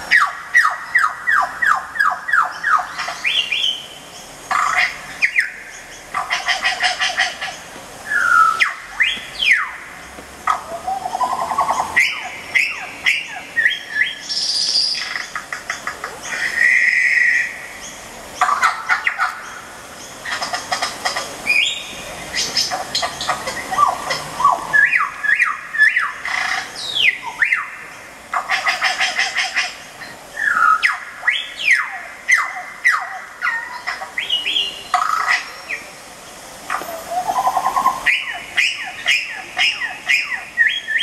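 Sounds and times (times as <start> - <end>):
bird-like chirps and trills: 0.0 - 41.0.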